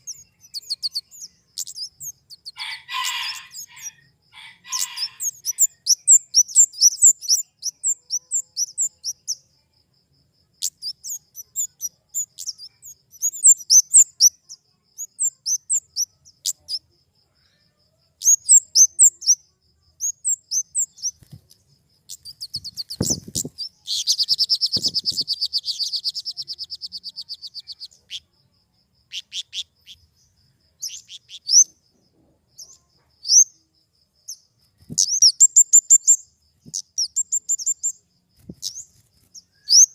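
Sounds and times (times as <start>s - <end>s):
bird chirping and trilling: 0.0s - 9.5s, 10.6s - 16.8s, 18.2s - 28.3s, 29.0s - 31.8s, 32.6s - 33.6s, 34.2s - 39.9s.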